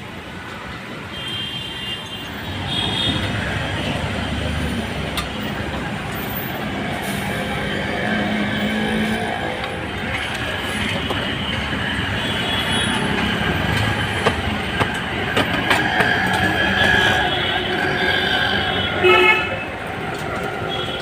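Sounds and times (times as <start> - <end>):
passing traffic: 0.0 - 21.0.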